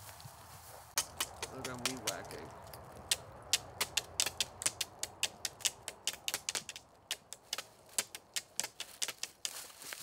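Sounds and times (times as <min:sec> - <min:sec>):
rapid uneven clicking: 0:01.0 - 0:09.6.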